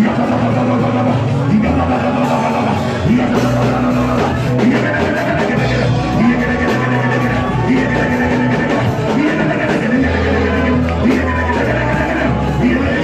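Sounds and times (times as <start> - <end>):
faint voices singing: 0.0 - 13.0
live band music: 0.0 - 13.0.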